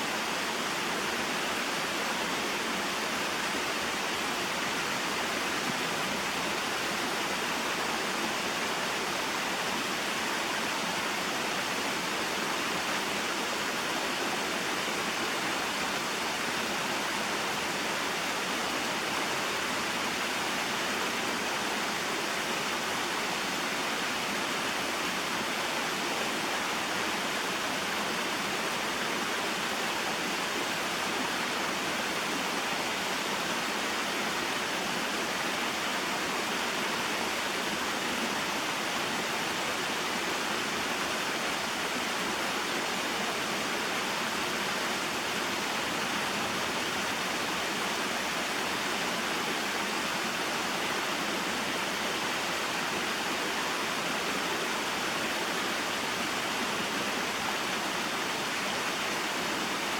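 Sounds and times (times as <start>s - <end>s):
small waterfall and stream rushing: 0.0s - 59.9s.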